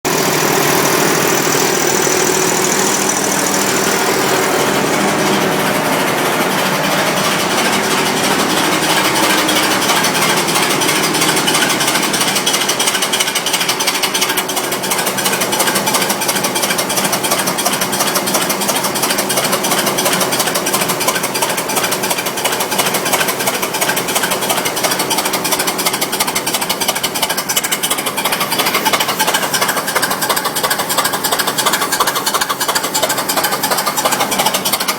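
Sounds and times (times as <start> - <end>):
engine exhaust puffs: 0.1 - 34.9.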